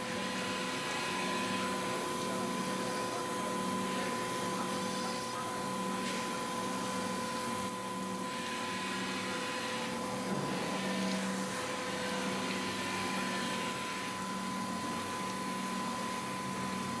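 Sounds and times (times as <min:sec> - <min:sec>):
grinding machine humming: 0:00.0 - 0:17.0.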